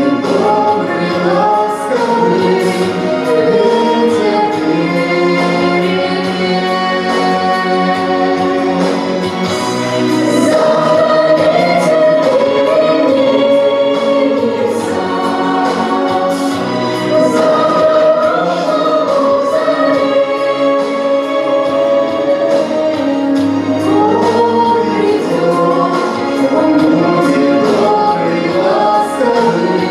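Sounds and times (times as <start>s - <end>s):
accompaniment with steady beat: 0.0s - 29.9s
group of voices singing: 0.0s - 29.9s.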